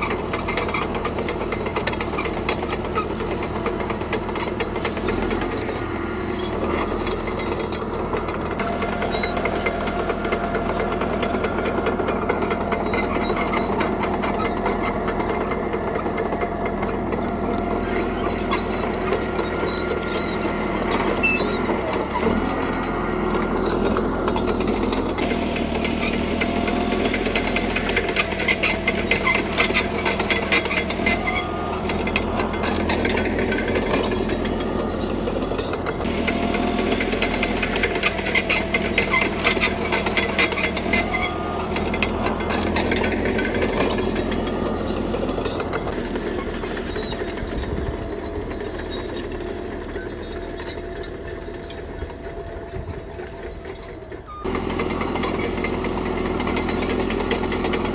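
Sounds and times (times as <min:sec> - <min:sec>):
diesel engine running: 0:00.0 - 0:57.9
steel tracks clattering and squealing: 0:00.0 - 0:57.9.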